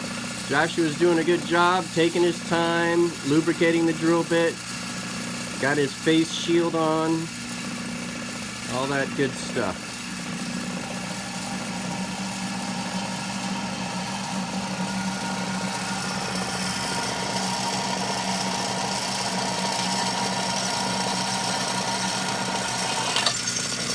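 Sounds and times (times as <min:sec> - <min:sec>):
drill press drilling into steel: 0:00.0 - 0:23.9.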